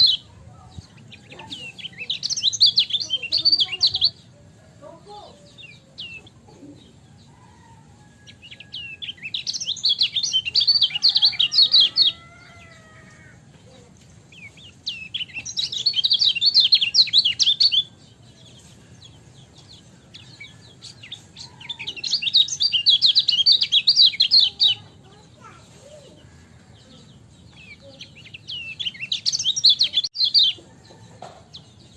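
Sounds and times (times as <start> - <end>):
bird twittering chirps: 0.0 - 4.4, 5.1 - 13.0, 14.0 - 25.3, 26.3 - 30.7.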